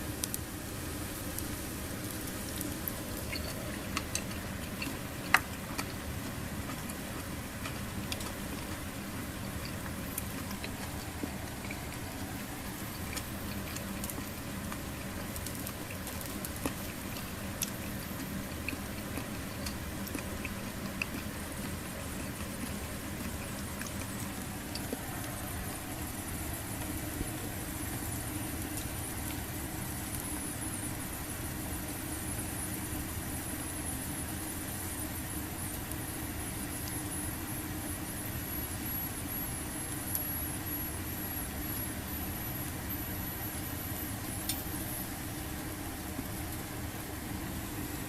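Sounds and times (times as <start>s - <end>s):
small fire crackling: 0.0s - 48.0s.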